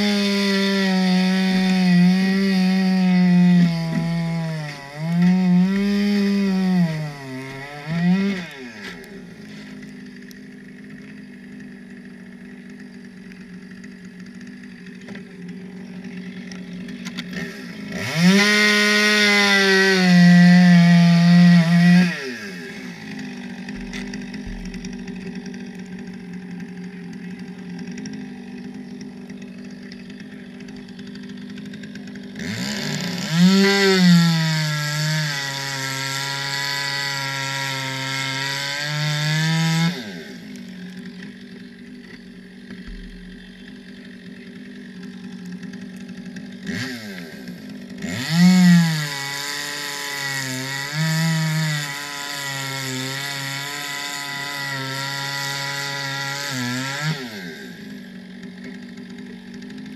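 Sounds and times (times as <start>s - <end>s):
chainsaw cutting ice: 0.0s - 59.9s.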